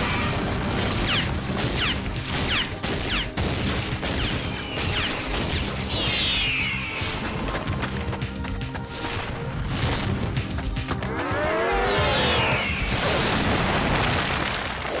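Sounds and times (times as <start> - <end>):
dramatic music: 0.0 - 15.0.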